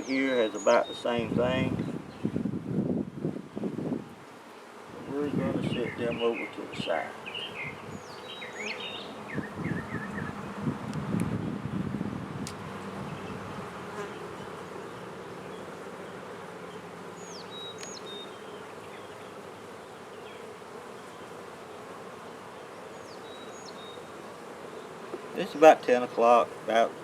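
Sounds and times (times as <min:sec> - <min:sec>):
honey bees buzzing: 0:00.0 - 0:27.0.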